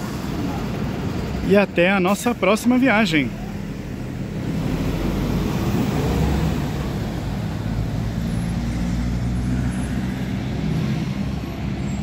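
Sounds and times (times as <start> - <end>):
bus engine driving past: 0.0 - 12.0
road noise: 0.0 - 12.0.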